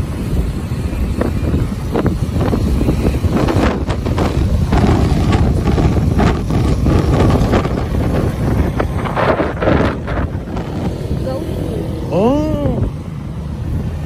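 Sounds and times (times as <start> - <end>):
vehicle engine and road noise: 0.0 - 14.0
wind buffeting microphone: 0.0 - 14.0.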